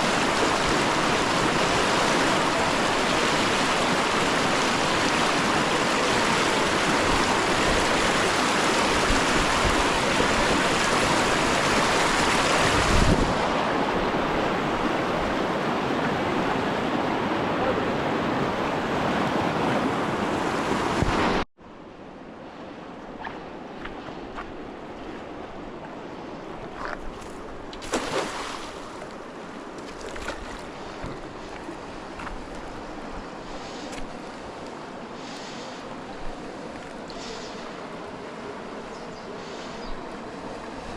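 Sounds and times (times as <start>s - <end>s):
rushing water and wind: 0.0s - 40.9s.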